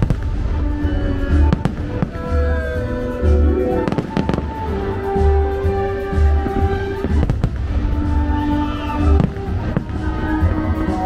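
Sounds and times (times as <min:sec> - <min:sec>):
fireworks booming: 0:00.0 - 0:11.0
fireworks cracking: 0:00.0 - 0:11.0
loud show music: 0:00.0 - 0:11.0.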